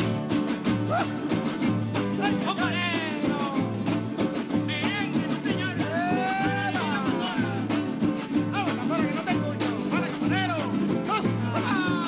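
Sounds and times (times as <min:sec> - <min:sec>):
strummed string instrument: 0:00.0 - 0:12.0
voices singing: 0:00.0 - 0:12.0.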